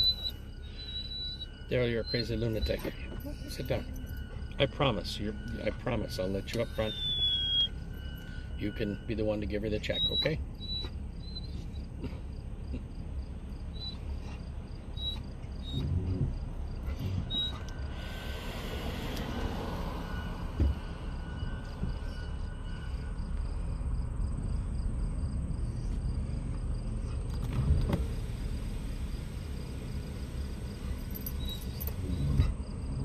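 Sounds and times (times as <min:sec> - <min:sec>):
insects chirping: 0:00.0 - 0:27.5, 0:28.1 - 0:33.0
truck engine and road rumble: 0:00.0 - 0:33.0.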